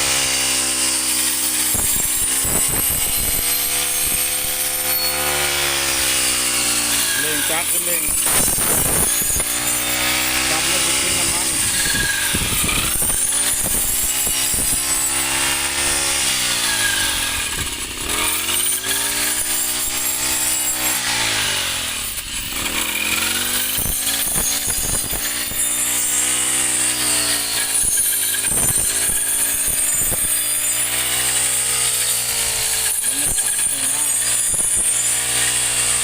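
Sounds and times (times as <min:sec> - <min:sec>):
small petrol engine revving: 0:00.0 - 0:36.0
stalks being cut: 0:00.0 - 0:36.0.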